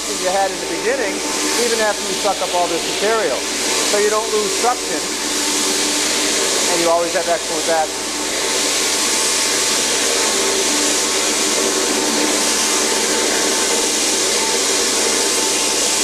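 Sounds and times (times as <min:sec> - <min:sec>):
industrial vacuum sucking: 0:00.0 - 0:16.0.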